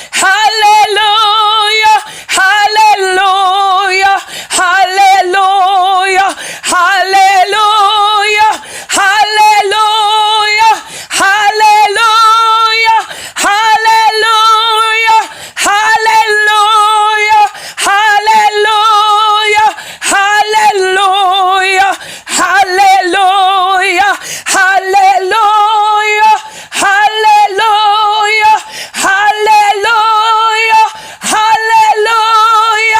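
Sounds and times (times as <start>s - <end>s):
woman singing long held notes: 0.0s - 32.9s.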